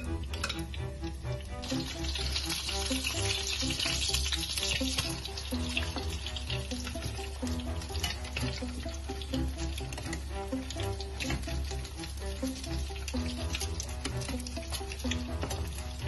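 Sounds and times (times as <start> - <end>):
background music: 0.0 - 16.0
patties sizzling in frying pan: 0.0 - 16.0.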